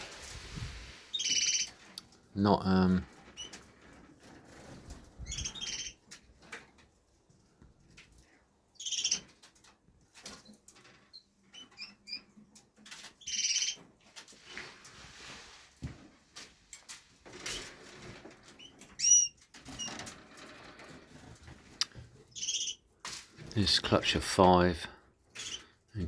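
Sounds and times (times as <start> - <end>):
canaries fluttering: 0.0 - 2.0, 2.6 - 6.8, 8.8 - 15.4, 16.4 - 24.7, 25.3 - 25.8.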